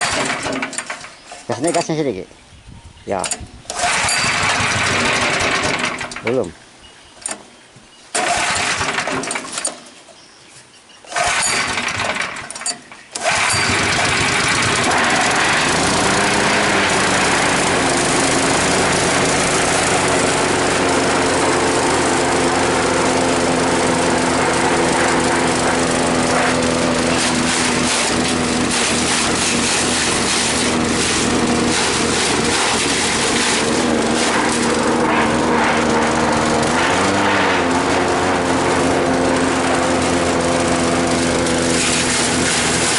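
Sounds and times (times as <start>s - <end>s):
small petrol engine starting and running: 0.0s - 2.0s, 3.7s - 6.4s, 8.2s - 9.8s, 11.1s - 42.9s.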